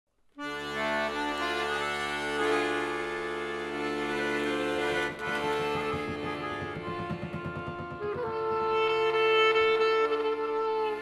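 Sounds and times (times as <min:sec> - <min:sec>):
klezmer ensemble music: 0:00.4 - 0:11.0.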